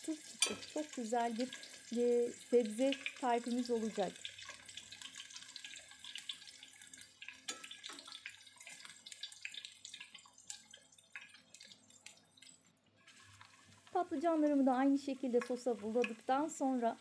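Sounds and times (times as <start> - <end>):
battered slices frying in oil: 0.0 - 17.0.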